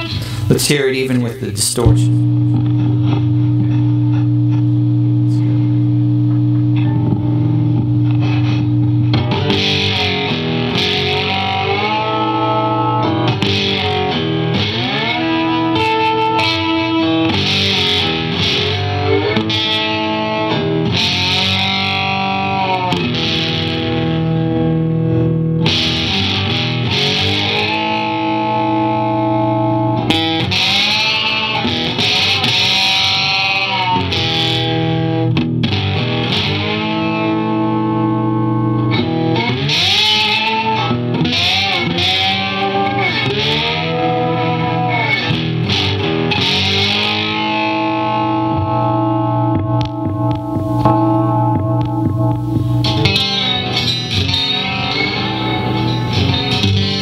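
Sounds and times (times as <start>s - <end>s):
distorted electric guitar riff: 0.0s - 57.0s.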